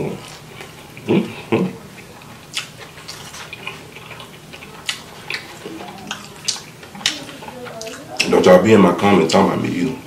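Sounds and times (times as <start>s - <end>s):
close-up chewing food: 0.0s - 9.6s.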